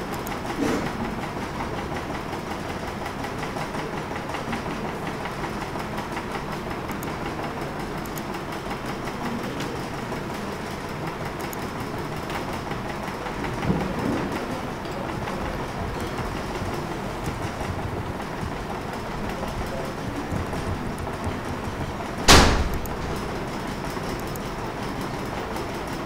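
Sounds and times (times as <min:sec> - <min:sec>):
steady mechanical noise: 0:00.0 - 0:26.0.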